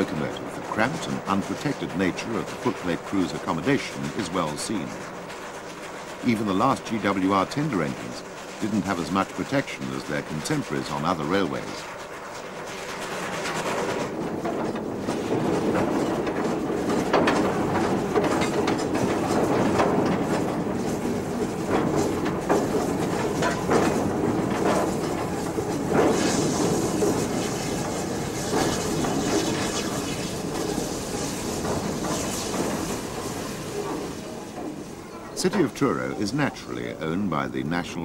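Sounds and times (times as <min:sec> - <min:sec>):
steam locomotive running: 0:00.0 - 0:38.0
wheels clattering on rails: 0:00.0 - 0:38.0.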